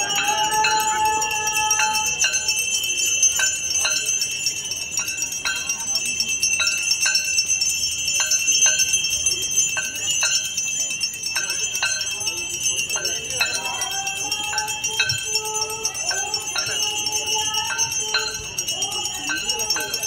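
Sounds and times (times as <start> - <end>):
brass bells ringing: 0.0 - 20.0
struck bell clangs: 0.0 - 20.0.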